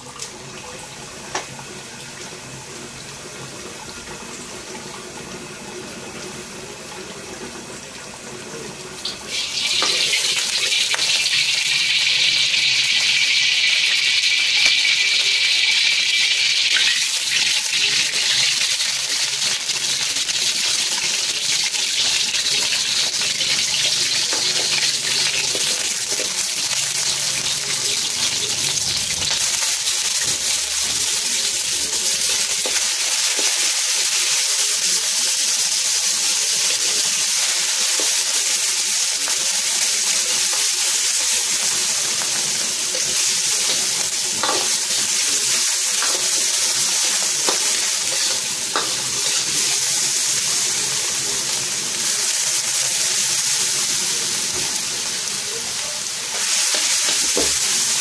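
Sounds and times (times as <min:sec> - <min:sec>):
food sizzling in hot oil: 0:08.1 - 0:58.0.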